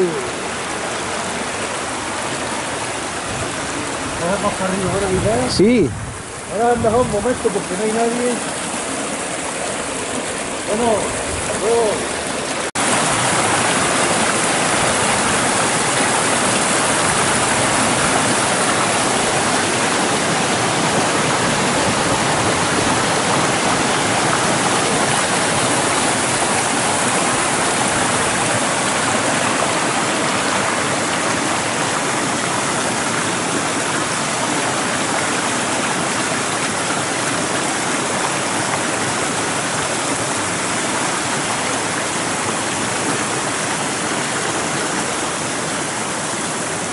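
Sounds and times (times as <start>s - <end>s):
water rushing over stones: 0.0s - 46.9s.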